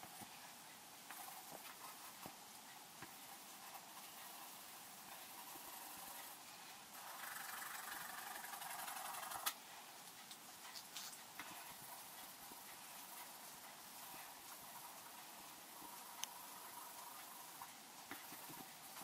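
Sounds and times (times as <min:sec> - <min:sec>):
faint ticks: 0:00.0 - 0:19.0.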